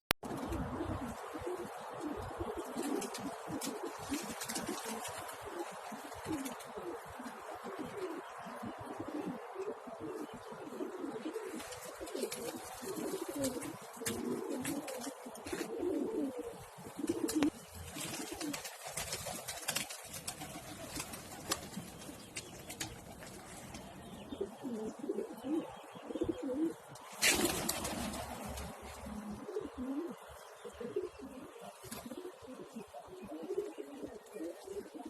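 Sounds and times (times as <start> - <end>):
pigeons cooing: 0.3 - 35.0.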